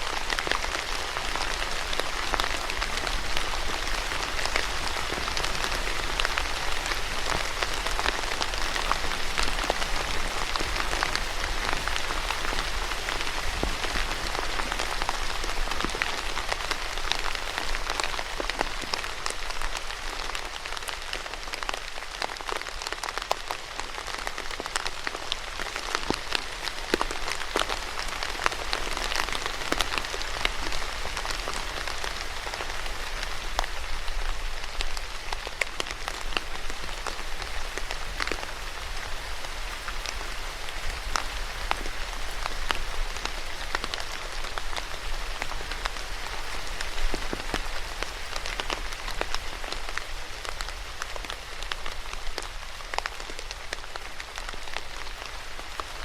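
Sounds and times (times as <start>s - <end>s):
rain falling: 0.0s - 56.0s
raindrops tapping: 0.0s - 56.0s.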